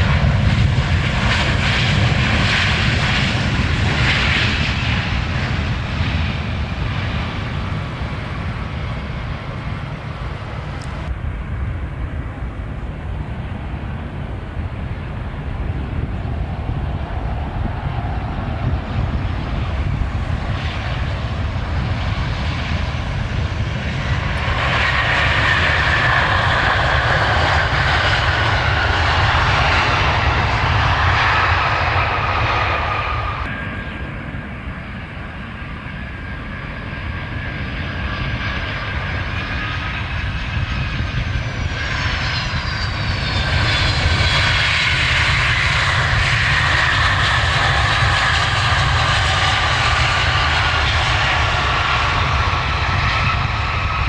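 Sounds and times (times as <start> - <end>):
airliner engines whining: 0.0 - 54.0.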